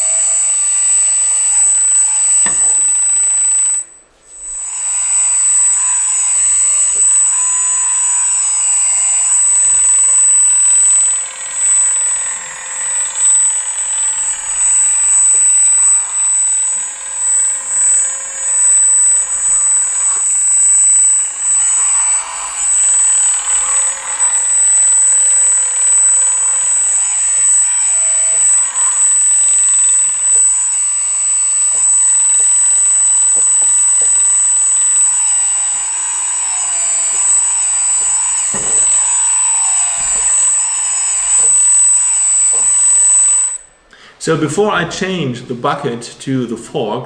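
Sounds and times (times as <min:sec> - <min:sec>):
electric motors whirring: 0:00.0 - 0:43.7
high-pitched hydraulic whine: 0:00.0 - 0:44.5.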